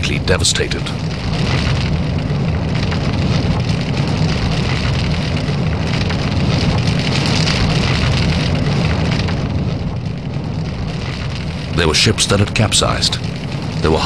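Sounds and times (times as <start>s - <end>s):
crackling and hissing noise: 0.0s - 14.0s
low rumble: 0.0s - 14.0s.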